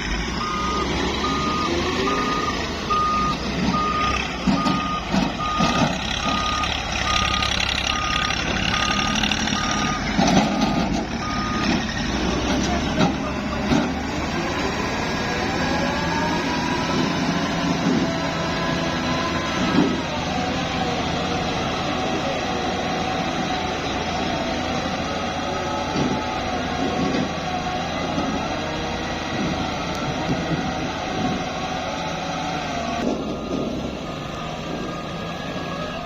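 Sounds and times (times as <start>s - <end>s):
diesel machinery running: 0.0s - 36.0s.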